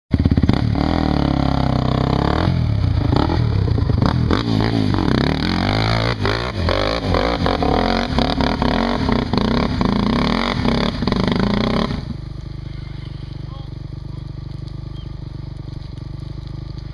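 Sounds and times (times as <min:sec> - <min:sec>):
quad engine revving: 0:00.1 - 0:16.9.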